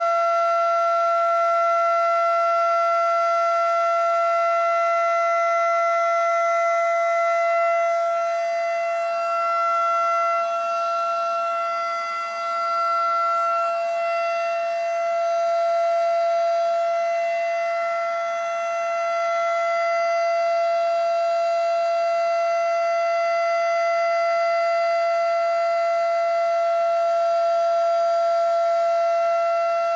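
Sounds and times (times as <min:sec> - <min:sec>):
steady warning siren: 0:00.0 - 0:29.9.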